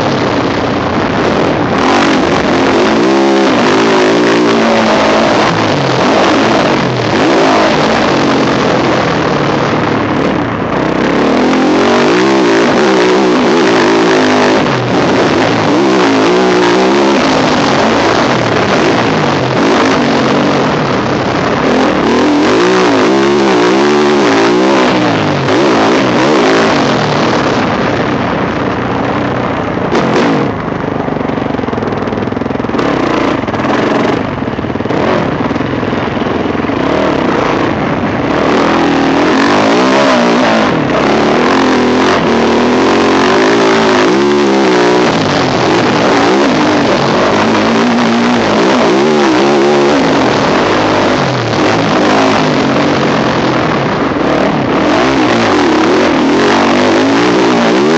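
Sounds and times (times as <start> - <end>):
motocross engine revving: 0.0 - 57.9.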